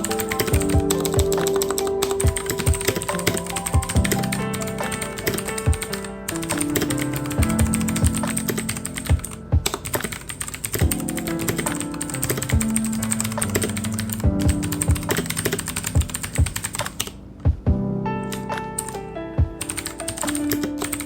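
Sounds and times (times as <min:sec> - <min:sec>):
typing on computer keyboard: 0:00.0 - 0:17.2, 0:19.6 - 0:21.0
background music with a beat: 0:00.0 - 0:20.8.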